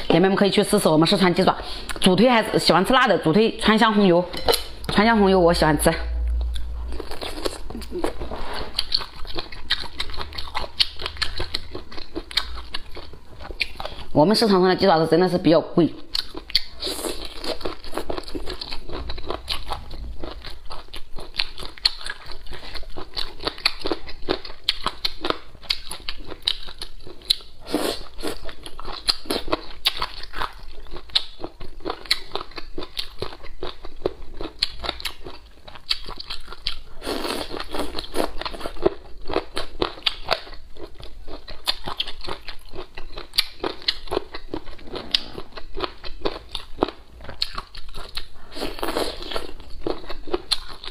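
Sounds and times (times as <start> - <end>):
chewing and biting crunches: 6.3 - 14.1, 16.1 - 50.9.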